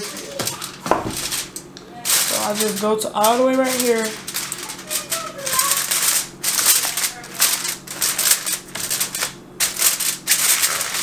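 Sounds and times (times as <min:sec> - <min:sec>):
aluminum foil crinkling: 0:00.0 - 0:11.0.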